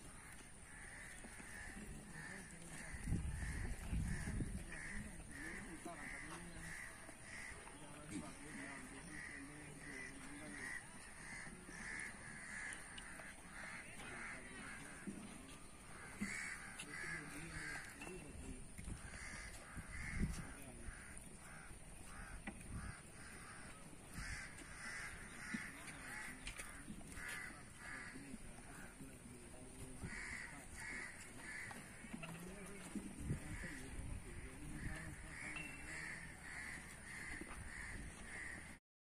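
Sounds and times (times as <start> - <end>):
birds calling: 0.0 - 38.8.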